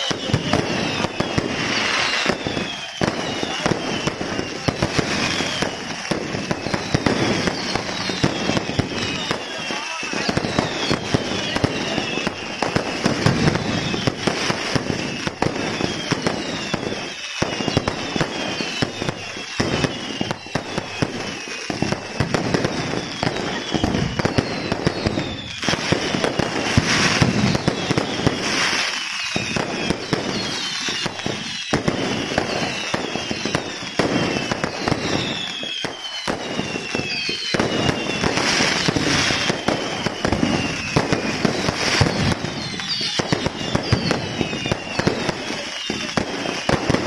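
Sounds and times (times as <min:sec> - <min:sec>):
fireworks bangs and crackling: 0:00.0 - 0:47.0
fireworks falling whistles: 0:00.0 - 0:47.0.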